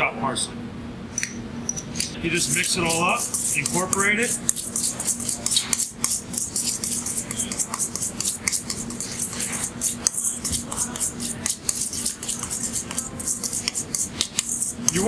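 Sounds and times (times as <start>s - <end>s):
utensil scraping metal bowl: 1.9s - 15.0s.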